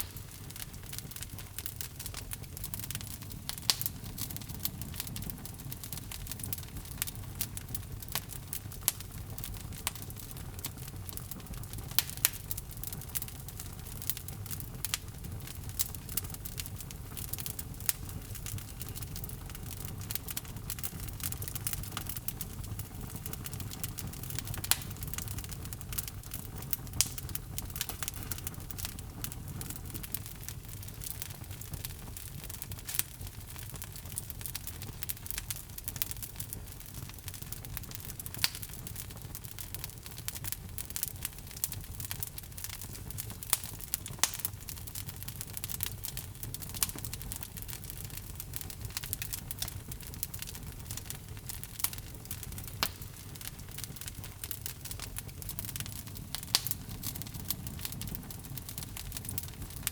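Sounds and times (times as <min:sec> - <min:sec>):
logs burning in a fireplace: 0:00.0 - 0:59.9.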